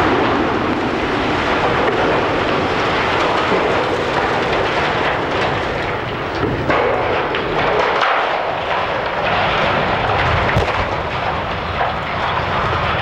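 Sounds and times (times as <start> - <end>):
loud steady rumbling: 0.0 - 13.0.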